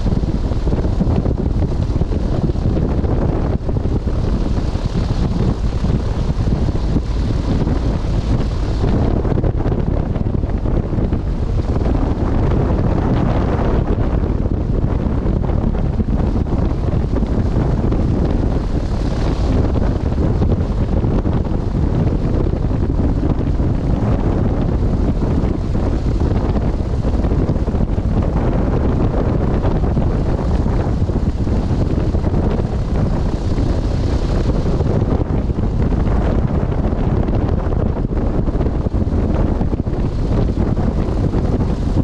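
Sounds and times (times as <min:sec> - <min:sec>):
propeller plane engine running: 0:00.0 - 0:42.0
wind buffeting microphone: 0:00.0 - 0:42.0.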